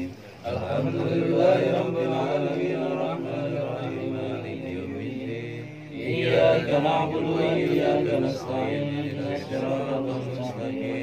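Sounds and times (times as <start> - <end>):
men chanting prayer: 0.0 - 11.0.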